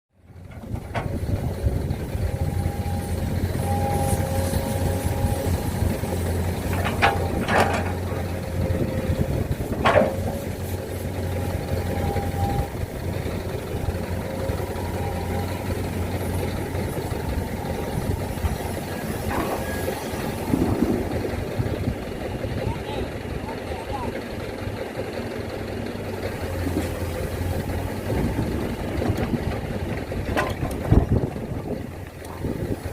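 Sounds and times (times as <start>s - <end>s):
diesel machinery rumbling: 0.1s - 32.9s.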